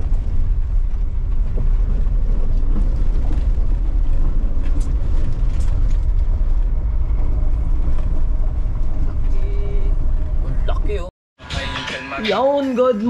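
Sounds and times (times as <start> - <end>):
vehicle rumbling in motion: 0.0 - 11.6.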